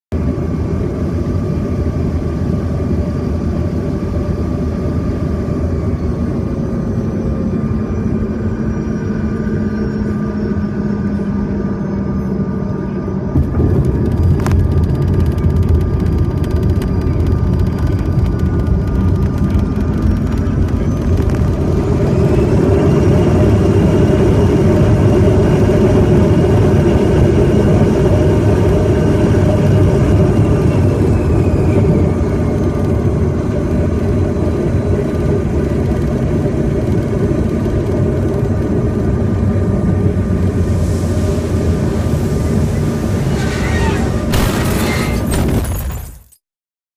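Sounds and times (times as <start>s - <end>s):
high engine whine: 0.1s - 46.2s
jet engines and runway rumble: 0.1s - 46.4s.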